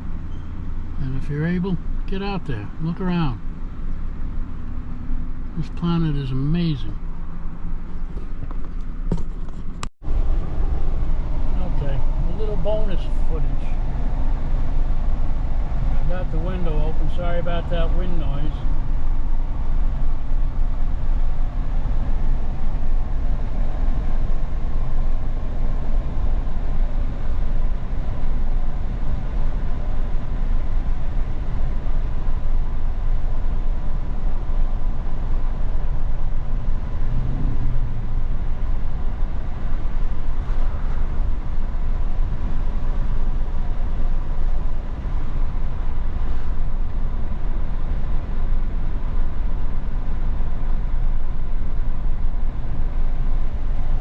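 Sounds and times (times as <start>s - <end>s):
car road noise: 0.0s - 54.0s.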